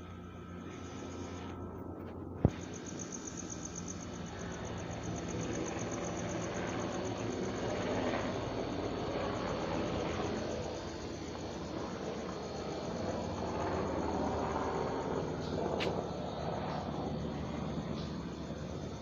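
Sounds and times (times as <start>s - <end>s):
crickets chirping: 0.0s - 19.0s
engine rumble: 0.1s - 19.0s.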